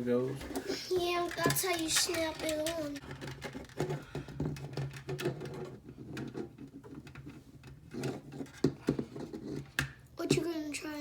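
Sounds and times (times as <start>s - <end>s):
plastic parts clicking and tapping: 0.4s - 10.5s.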